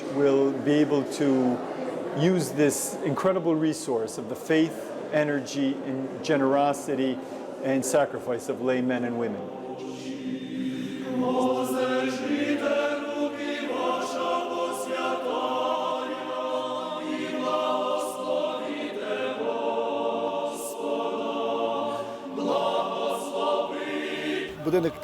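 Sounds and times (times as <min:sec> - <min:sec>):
choir singing a slow chant: 0:00.0 - 0:24.9.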